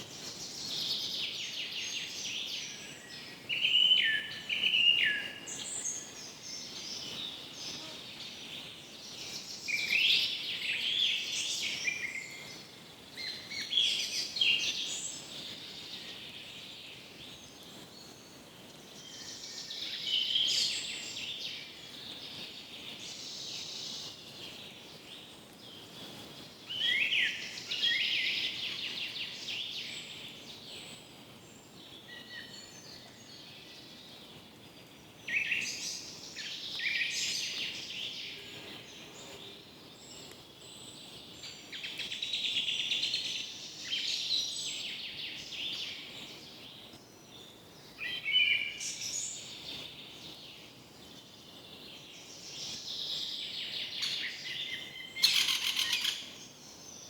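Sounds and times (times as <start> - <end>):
faint background hiss: 0.0 - 57.0
songbirds chirping and trilling: 0.0 - 57.0.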